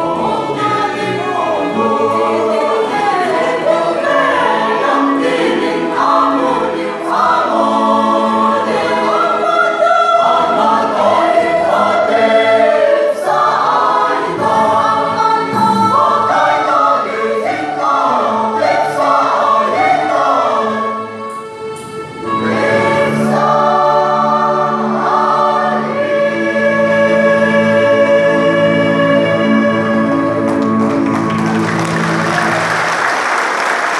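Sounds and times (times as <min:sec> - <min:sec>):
mixed choir singing: 0:00.0 - 0:33.9.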